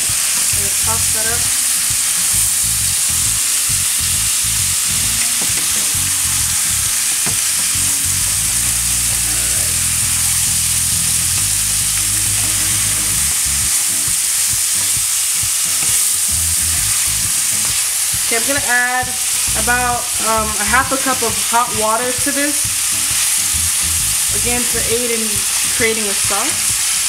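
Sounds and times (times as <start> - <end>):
food sizzling in a pan: 0.0 - 27.0
spatula stirring in a pan: 0.1 - 27.0.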